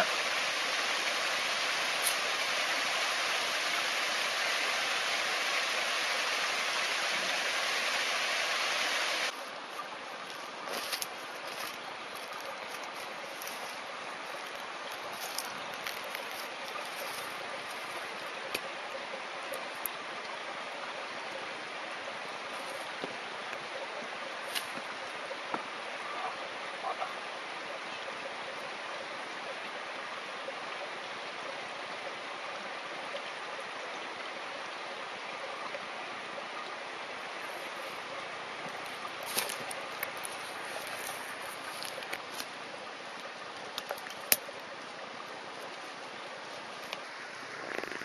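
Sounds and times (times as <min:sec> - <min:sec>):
stream rushing water: 0:00.0 - 0:48.0.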